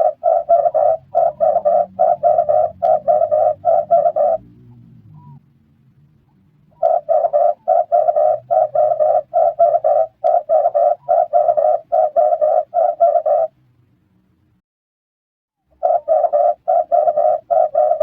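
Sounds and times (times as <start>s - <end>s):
dove cooing: 0.0s - 5.4s, 6.7s - 13.6s, 15.8s - 18.0s.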